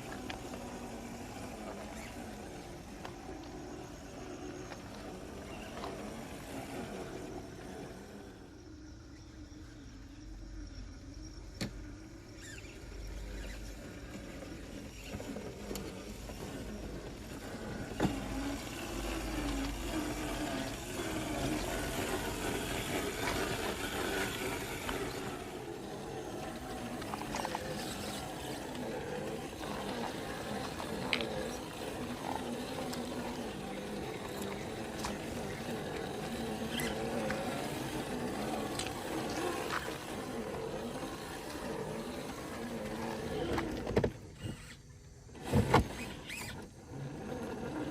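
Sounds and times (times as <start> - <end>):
electric motor and gears whining: 0.0 - 47.9.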